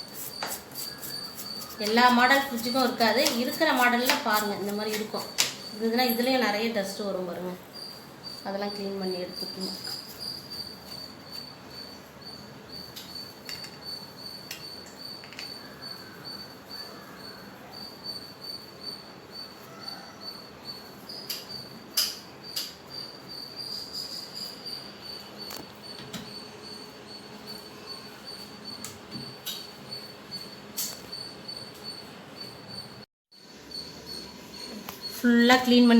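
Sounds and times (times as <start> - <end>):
high-pitched insect trill: 0.0 - 35.9.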